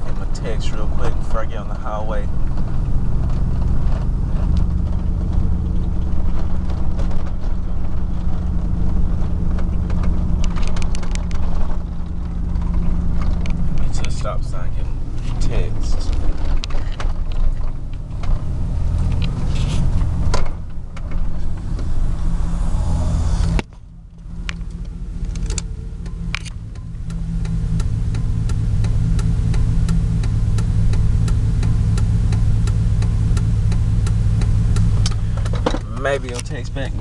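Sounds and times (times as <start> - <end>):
truck engine heard from cab: 0.0 - 37.0
turn signal clicking: 2.3 - 37.0.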